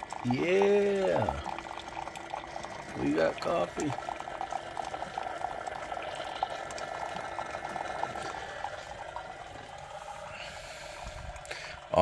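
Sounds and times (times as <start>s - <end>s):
coffee maker brewing: 0.0s - 12.0s
coffee pouring into a mug: 0.0s - 12.0s.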